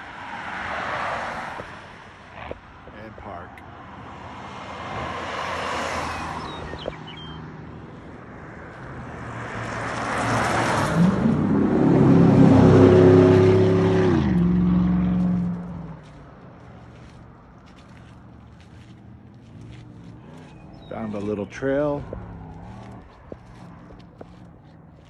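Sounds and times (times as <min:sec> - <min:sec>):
motor vehicles passing: 0:00.0 - 0:25.0.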